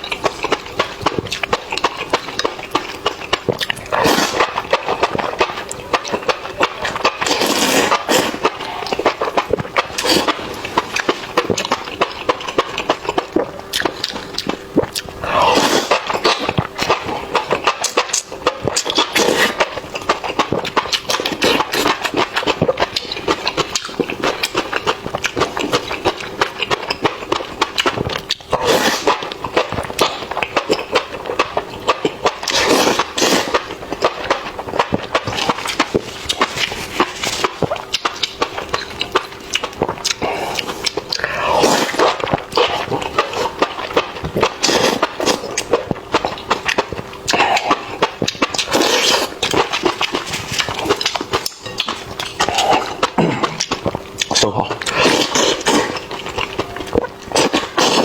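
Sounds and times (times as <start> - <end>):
person chewing and crunching: 0.0 - 58.0.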